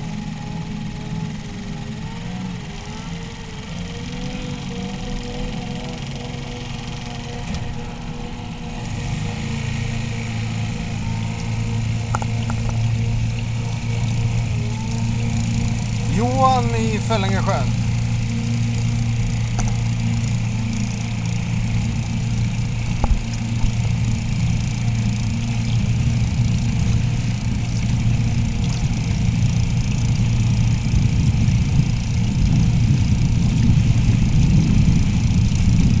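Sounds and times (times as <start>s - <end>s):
snowmobile engine droning: 0.0s - 36.0s.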